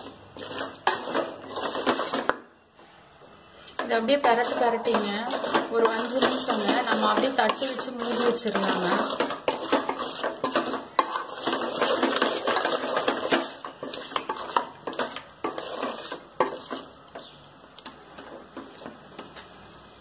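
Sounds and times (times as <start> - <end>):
wooden spatula scraping metal pot: 0.0 - 2.4, 3.5 - 17.4.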